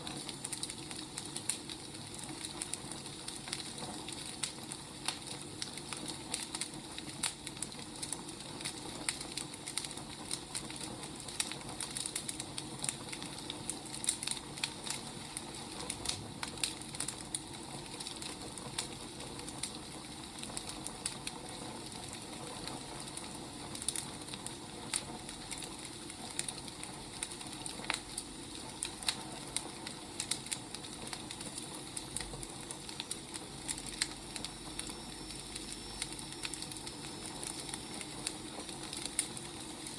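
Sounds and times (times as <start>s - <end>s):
burning logs crackling: 0.0s - 39.9s
fire hissing: 0.0s - 39.9s.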